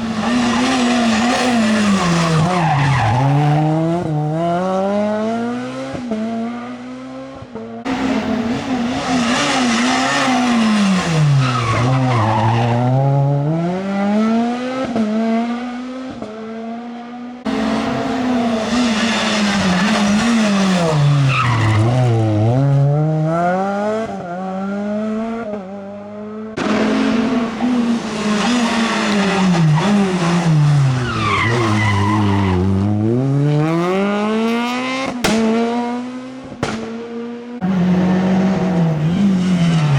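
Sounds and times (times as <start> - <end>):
rally car engines at high revs: 0.0 - 39.9.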